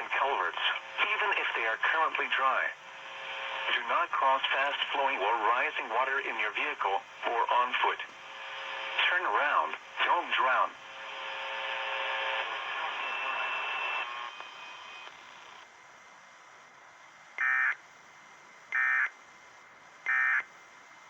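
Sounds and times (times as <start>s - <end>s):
steady multi-tone buzz: 0.0s - 15.7s, 17.3s - 21.0s.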